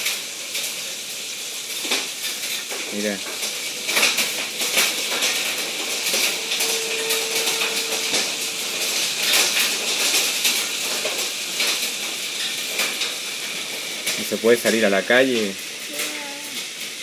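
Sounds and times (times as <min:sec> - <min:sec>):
hailstones clattering on hard surfaces: 0:00.0 - 0:06.7, 0:08.1 - 0:17.0
heavy rain hissing: 0:00.0 - 0:17.0.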